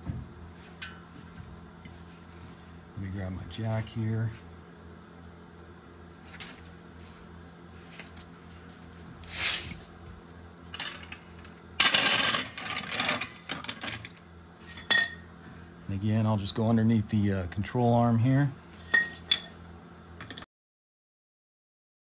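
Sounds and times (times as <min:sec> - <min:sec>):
steady low hum: 0:00.0 - 0:20.5.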